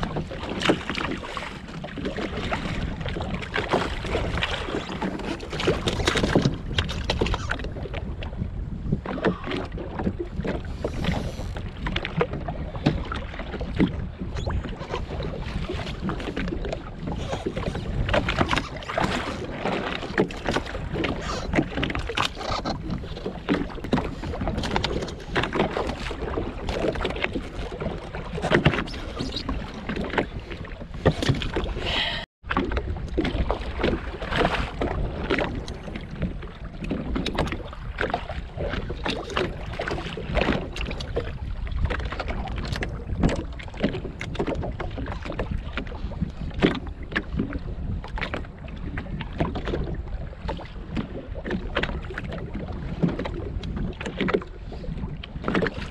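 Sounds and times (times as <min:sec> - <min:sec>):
water lapping against hull: 0:00.0 - 0:55.9
wind buffeting microphone: 0:00.0 - 0:55.9.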